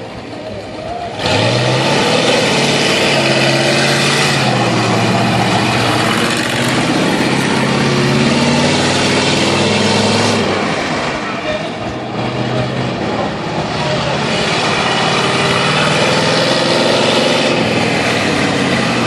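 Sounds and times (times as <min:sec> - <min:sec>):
monster truck engine roaring: 0:00.0 - 0:19.0.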